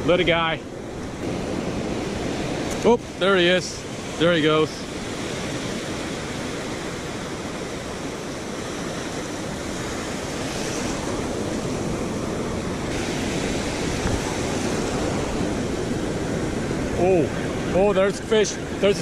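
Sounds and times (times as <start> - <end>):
ocean surf breaking on sand: 0.0 - 19.0.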